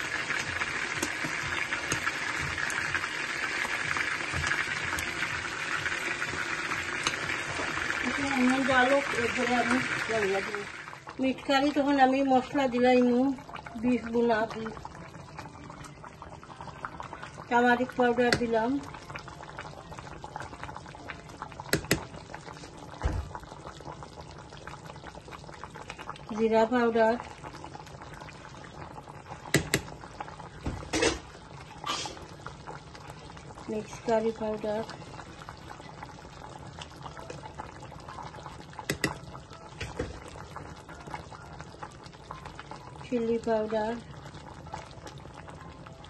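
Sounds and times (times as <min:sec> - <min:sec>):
broth bubbling in a pot: 0:00.0 - 0:46.0.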